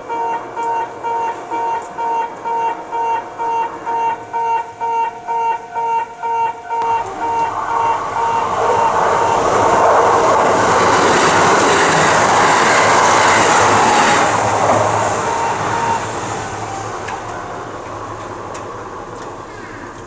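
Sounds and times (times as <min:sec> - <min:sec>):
level crossing warning bell: 0:00.0 - 0:19.9
train running noise: 0:00.0 - 0:20.0.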